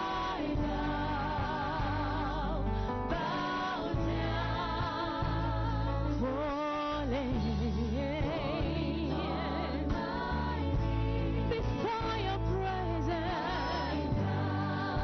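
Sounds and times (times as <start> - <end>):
keyboard and bass chords: 0.0 - 15.0.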